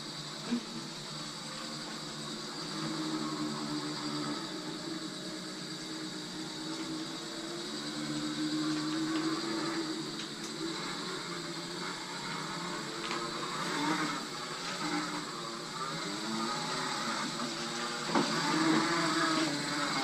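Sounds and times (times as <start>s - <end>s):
electric motor humming: 0.0s - 20.0s.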